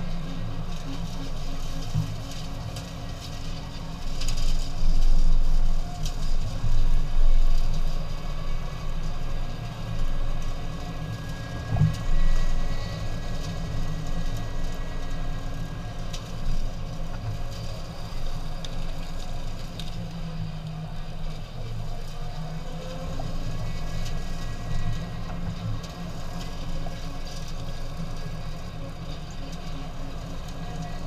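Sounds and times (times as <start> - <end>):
truck engine hum: 0.0 - 31.0.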